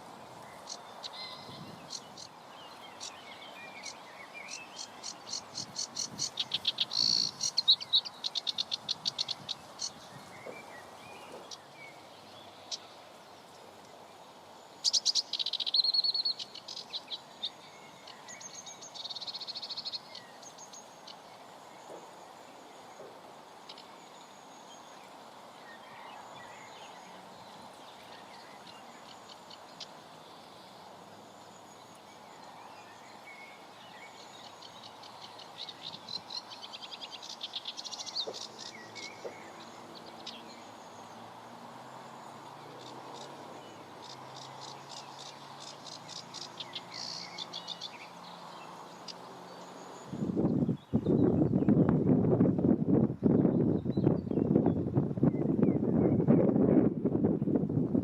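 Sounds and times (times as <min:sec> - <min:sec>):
wind hiss on microphone: 0:00.0 - 0:58.0.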